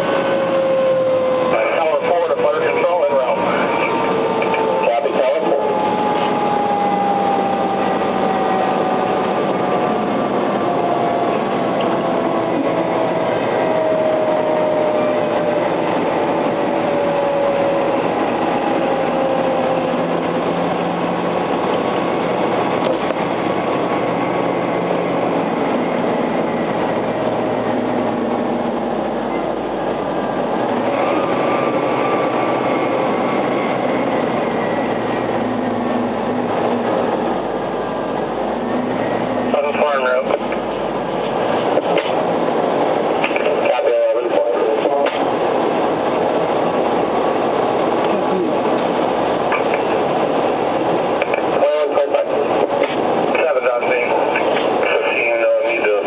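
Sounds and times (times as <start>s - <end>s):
fire engine engine and road noise: 0.0s - 56.0s.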